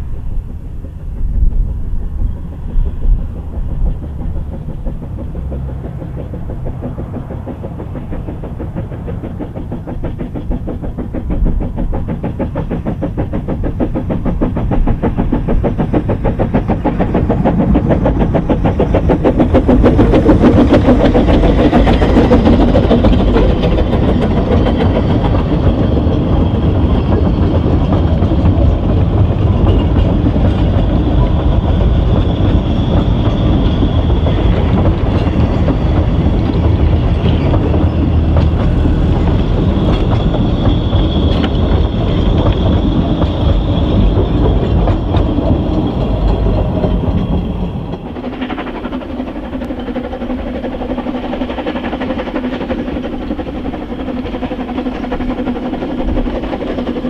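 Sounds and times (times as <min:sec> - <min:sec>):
steam locomotive exhaust beats: 0:00.0 - 0:57.0
train carriages rolling past: 0:00.0 - 0:57.0.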